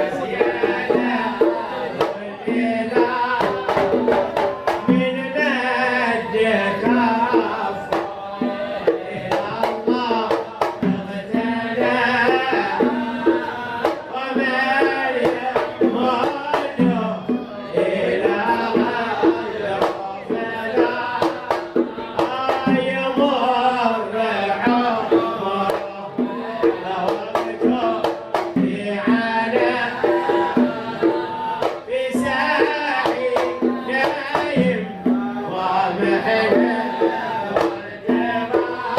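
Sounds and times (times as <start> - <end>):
men singing a devotional chant: 0.0 - 38.9.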